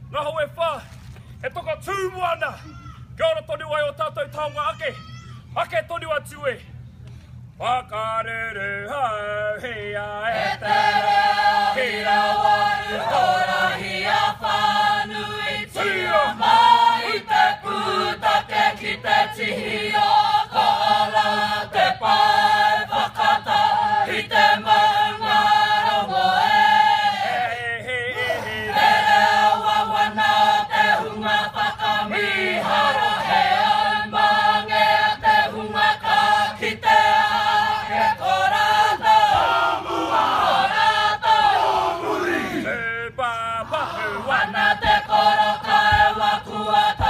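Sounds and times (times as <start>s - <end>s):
men and women singing in chorus: 8.4s - 47.0s.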